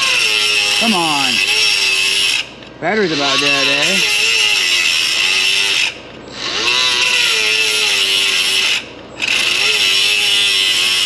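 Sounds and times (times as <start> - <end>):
power tool motor whine: 0.0 - 11.0.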